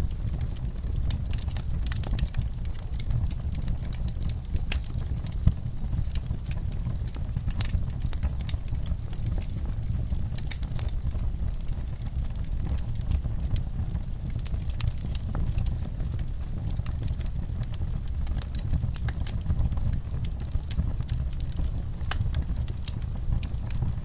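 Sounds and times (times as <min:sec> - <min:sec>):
fire crackling and popping: 0:00.0 - 0:24.0
loud snap of fire: 0:00.0 - 0:24.0
low rumble of flames: 0:00.0 - 0:24.0.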